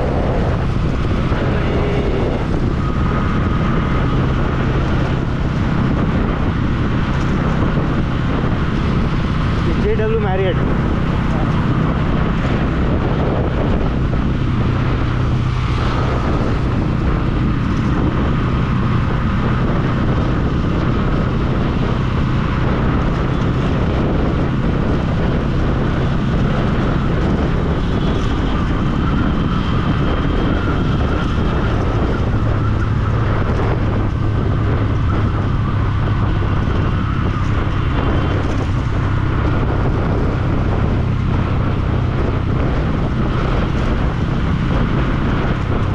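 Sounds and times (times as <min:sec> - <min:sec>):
motorcycle engine running: 0:00.0 - 0:45.9
wind on microphone: 0:00.0 - 0:45.9.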